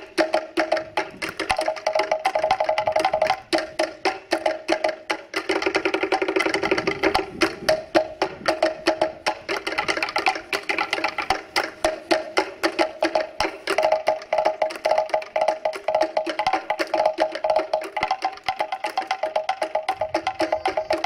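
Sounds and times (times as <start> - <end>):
slit log drums played with sticks: 0.0 - 21.0.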